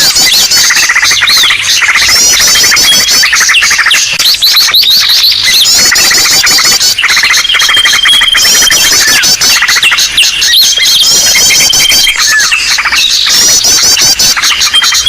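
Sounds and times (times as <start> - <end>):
flock of small birds chirping: 0.0 - 15.0.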